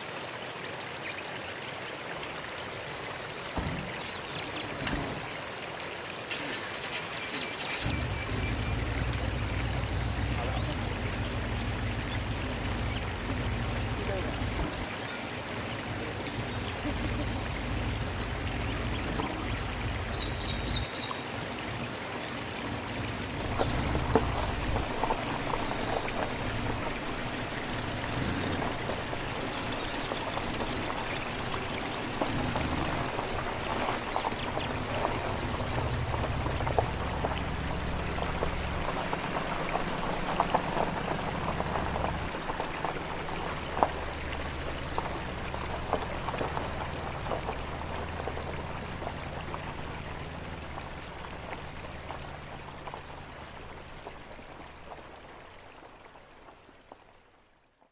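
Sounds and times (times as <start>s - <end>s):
mountain stream flowing: 0.0s - 57.9s.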